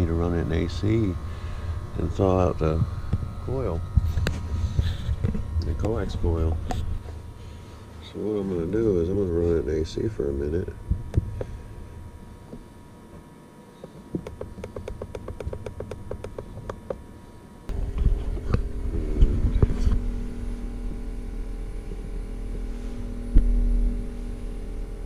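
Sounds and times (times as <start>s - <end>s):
heat pump humming: 0.0s - 25.0s.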